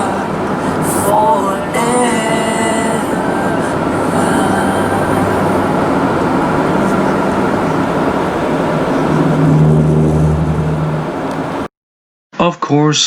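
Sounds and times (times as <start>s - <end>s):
low engine drone: 0.0s - 11.7s
train wheels rumbling on rail: 0.0s - 11.7s.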